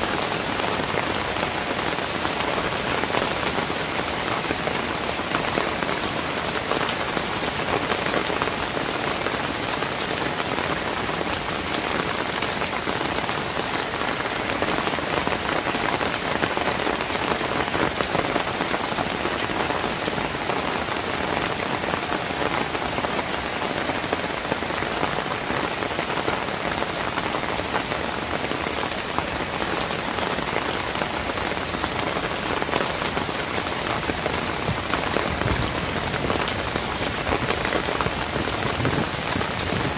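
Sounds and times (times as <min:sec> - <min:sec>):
rain on pavement and leaves: 0:00.0 - 0:39.9.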